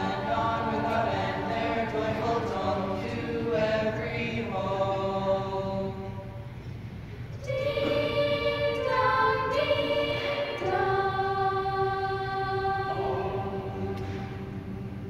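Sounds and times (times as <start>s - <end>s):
mixed choir singing a cappella: 0.0s - 6.5s, 7.3s - 15.0s.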